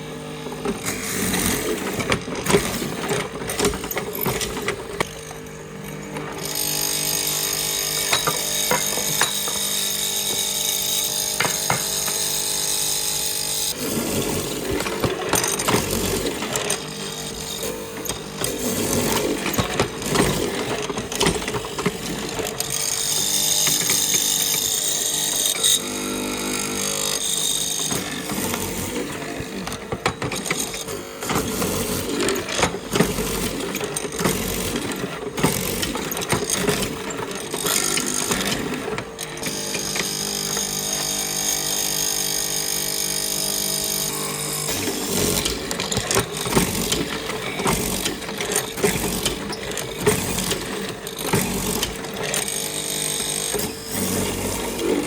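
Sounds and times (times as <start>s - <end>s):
woodworking power tool running: 0.0s - 55.0s.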